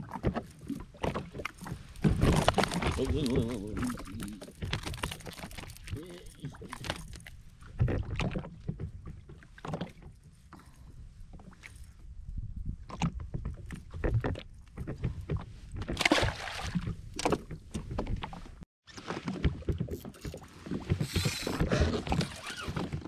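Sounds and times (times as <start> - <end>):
water lapping against hull: 0.0 - 23.0.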